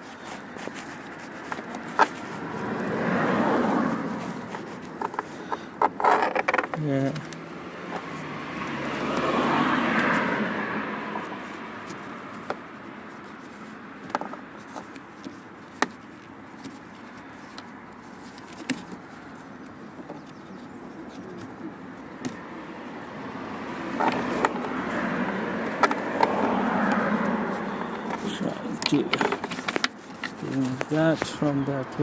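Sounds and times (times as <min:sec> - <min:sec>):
car passing: 0:00.0 - 0:14.8, 0:17.0 - 0:32.0.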